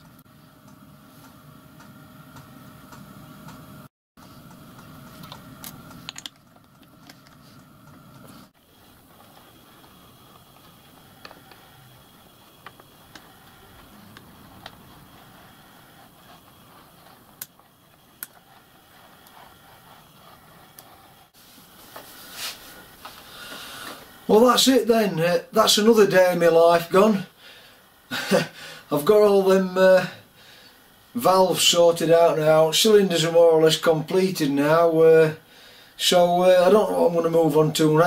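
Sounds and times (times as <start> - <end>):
faint workshop background: 0.0 - 38.0.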